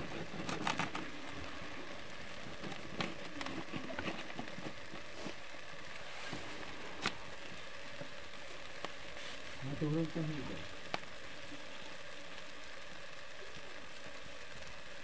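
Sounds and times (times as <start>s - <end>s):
crackles and pops: 0.0s - 15.0s
gravy sizzling and bubbling: 0.0s - 15.0s.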